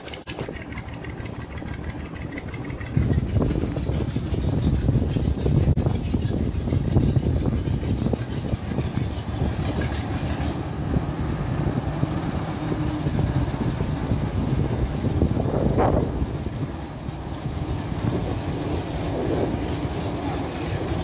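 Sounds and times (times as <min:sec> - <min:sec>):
diesel locomotive engine throbbing: 0:00.0 - 0:21.0.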